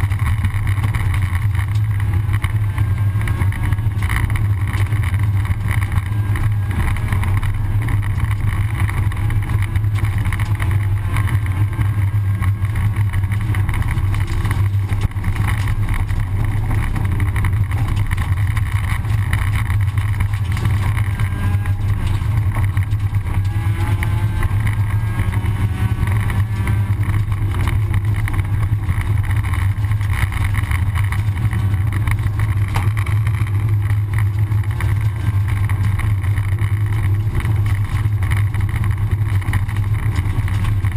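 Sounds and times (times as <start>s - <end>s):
car engine running at speed: 0.0s - 40.9s
road and tyre noise: 0.0s - 40.9s.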